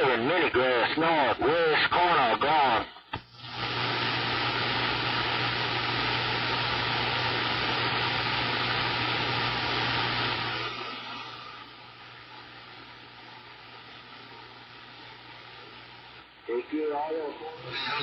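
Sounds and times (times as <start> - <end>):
low hum from radio speaker: 0.0 - 18.0
radio static hiss: 0.0 - 18.0.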